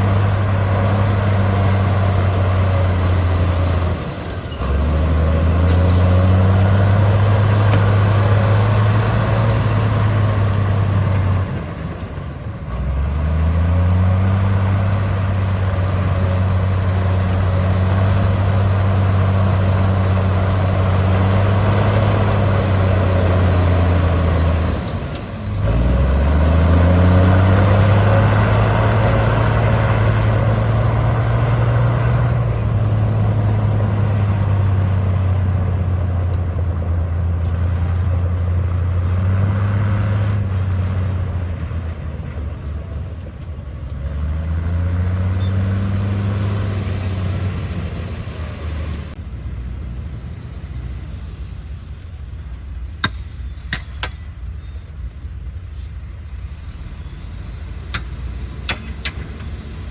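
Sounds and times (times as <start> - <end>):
bulldozer diesel engine running hard: 0.0 - 59.9.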